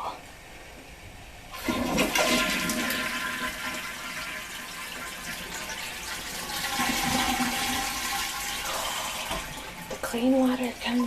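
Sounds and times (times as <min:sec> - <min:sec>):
toilet flushing: 0:01.5 - 0:11.0
water running from tank refill: 0:01.5 - 0:11.0.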